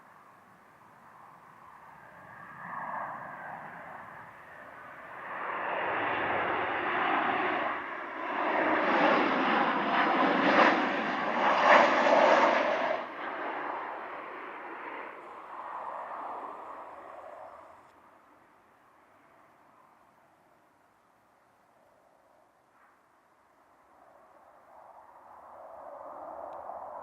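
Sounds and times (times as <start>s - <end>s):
jet aircraft engines passing: 0.1s - 27.0s.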